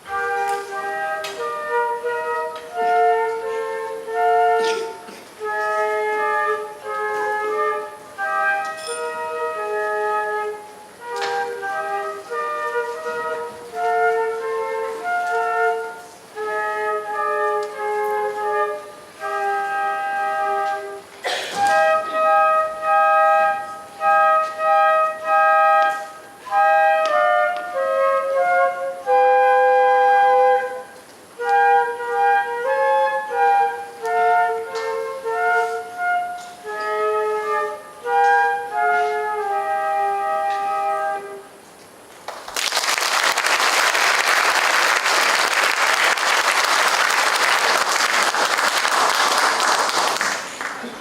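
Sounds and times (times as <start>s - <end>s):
flute melody: 0.0s - 41.8s.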